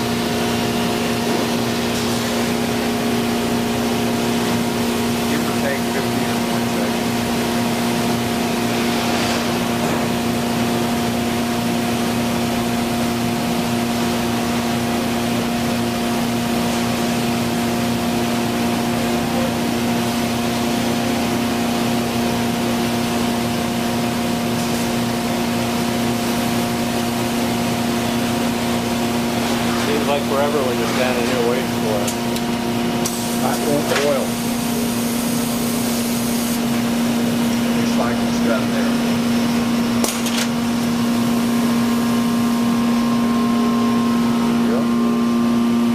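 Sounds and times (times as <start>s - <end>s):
machine low hum: 0.0s - 45.9s.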